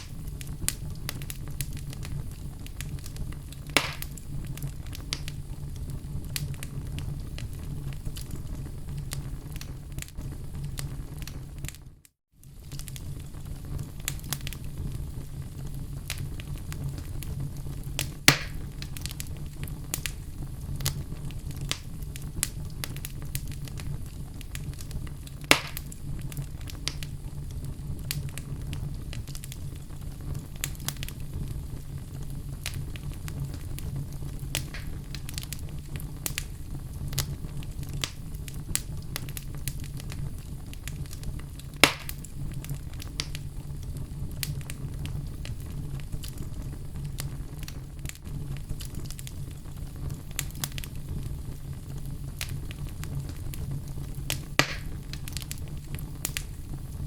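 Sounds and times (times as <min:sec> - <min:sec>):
fireplace fire crackling: 0:00.0 - 0:57.0
loud pops from fire: 0:00.0 - 0:57.0.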